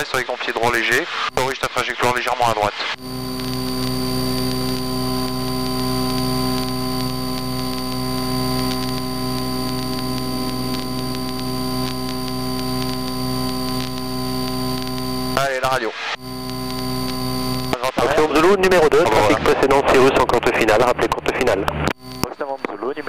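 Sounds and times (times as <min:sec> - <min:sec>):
static hiss: 0:00.0 - 0:22.4
thin high whine: 0:00.6 - 0:22.9.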